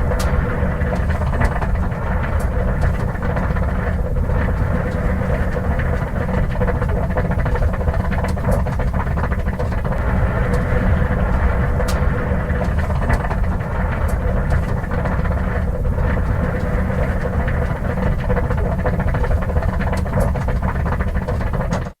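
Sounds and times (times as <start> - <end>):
car engine idling: 0.0 - 21.8.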